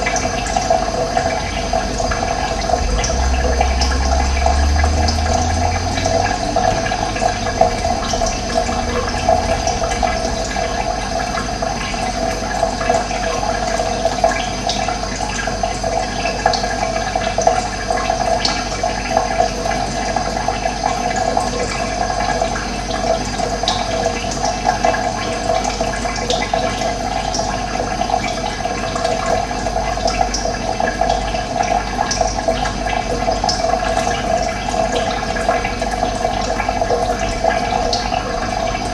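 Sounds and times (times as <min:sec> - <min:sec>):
running water splashing: 0:00.0 - 0:38.9.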